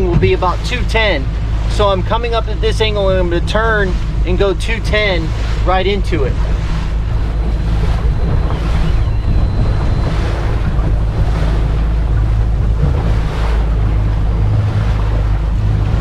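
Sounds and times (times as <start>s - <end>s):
boat engine humming: 0.0s - 16.0s
water rushing along hull: 0.0s - 16.0s
wind on microphone: 0.0s - 16.0s.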